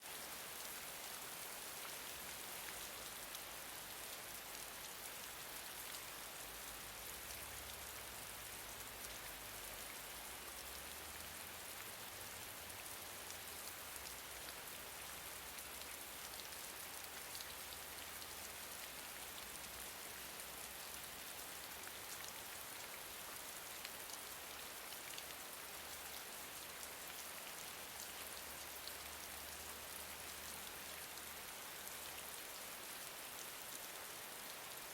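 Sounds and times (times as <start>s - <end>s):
gentle rain hiss: 0.0s - 34.9s.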